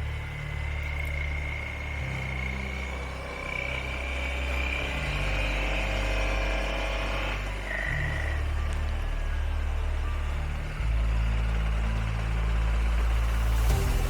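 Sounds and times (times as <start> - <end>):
motorcycle engine running: 0.0 - 14.0
thin high whine: 0.0 - 14.0.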